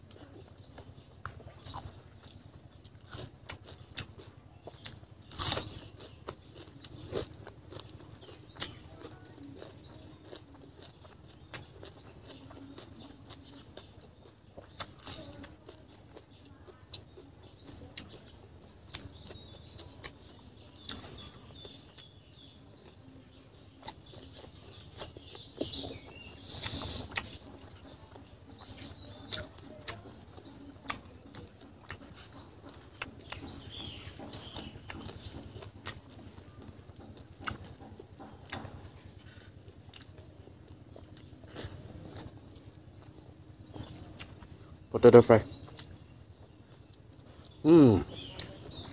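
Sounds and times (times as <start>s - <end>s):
faint bird chirps: 0.0s - 48.9s
man chewing food: 0.0s - 48.9s.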